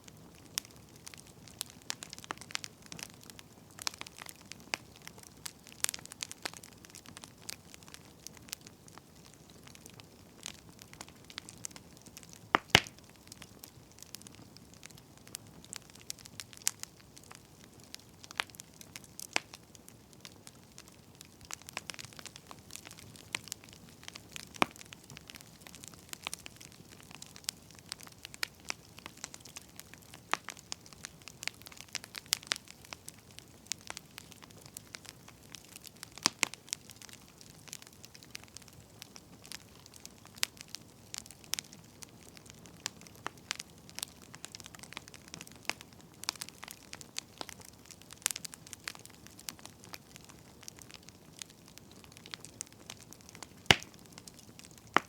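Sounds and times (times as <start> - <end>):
faint steady hiss: 0.0 - 55.0
wood fire crackling: 0.0 - 55.0.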